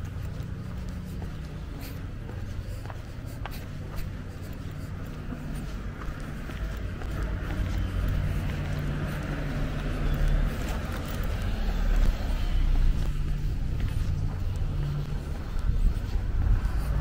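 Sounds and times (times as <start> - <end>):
car engine humming: 0.0 - 17.0
road rumble: 0.0 - 17.0.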